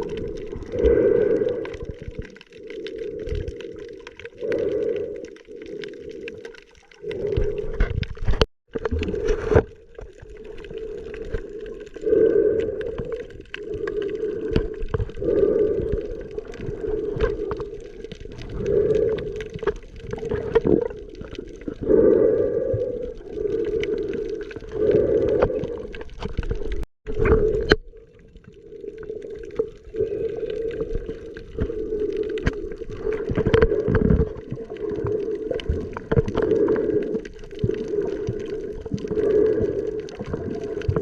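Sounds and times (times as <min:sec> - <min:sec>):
muffled underwater water sound: 0:00.0 - 0:41.0.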